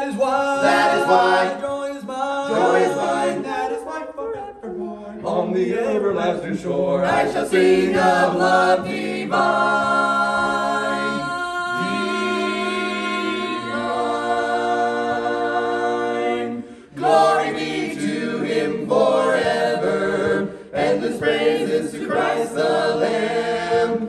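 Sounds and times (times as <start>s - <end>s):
vocal group singing a hymn: 0.0s - 24.0s.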